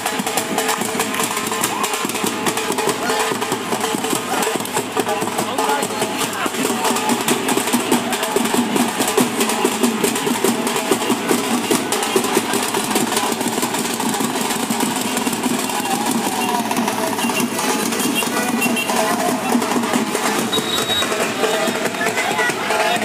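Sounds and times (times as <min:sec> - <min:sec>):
drum beaten with a stick: 0:00.0 - 0:23.0.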